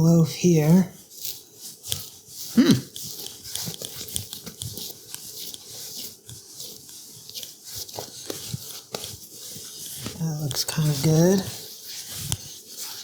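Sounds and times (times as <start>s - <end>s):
dough squishing and tearing: 0.9s - 13.0s.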